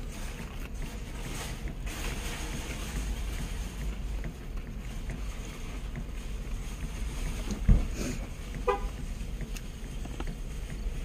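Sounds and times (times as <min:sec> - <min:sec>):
low rumble in truck cabin: 0:00.0 - 0:11.0.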